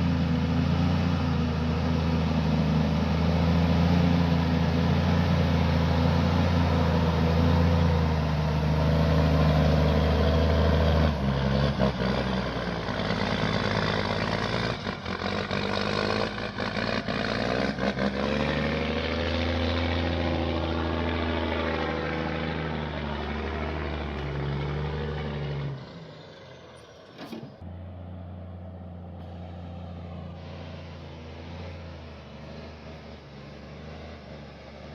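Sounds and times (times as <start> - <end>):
heavy truck engine under load: 0.0 - 34.9.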